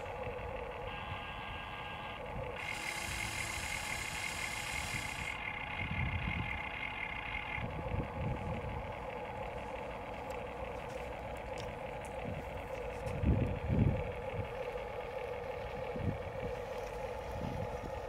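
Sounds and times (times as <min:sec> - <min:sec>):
low rumbles: 0:00.0 - 0:18.0
toy excavator electric motors whining: 0:00.0 - 0:18.0.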